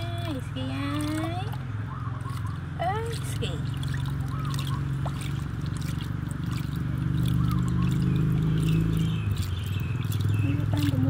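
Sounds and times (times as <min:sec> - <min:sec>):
low mechanical hum: 0:00.0 - 0:11.0
water splashing in plastic basin: 0:00.0 - 0:11.0.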